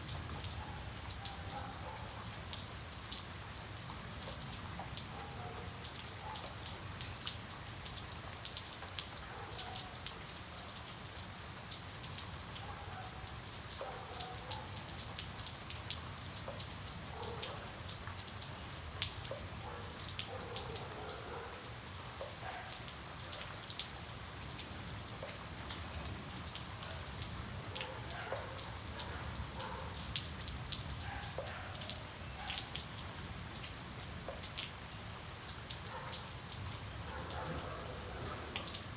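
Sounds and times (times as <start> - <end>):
raindrops ticking close by: 0.0 - 38.9
steady rain: 0.0 - 38.9.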